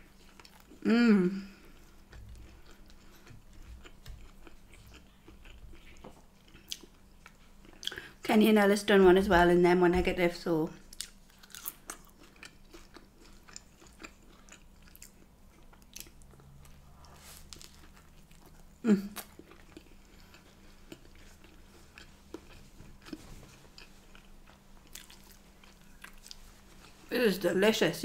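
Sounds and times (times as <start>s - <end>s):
chewing crusty bread: 0.0s - 0.8s, 1.4s - 8.1s, 10.8s - 27.1s.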